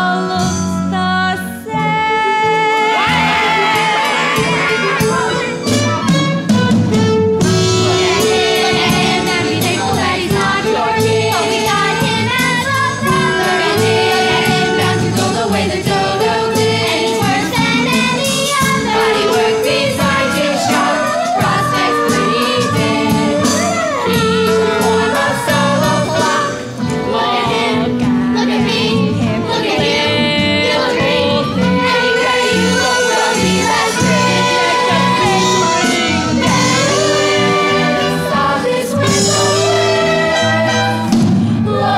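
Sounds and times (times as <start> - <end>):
instrumental accompaniment: 0.0 - 41.9
children's chorus singing: 2.1 - 6.3, 7.6 - 41.9.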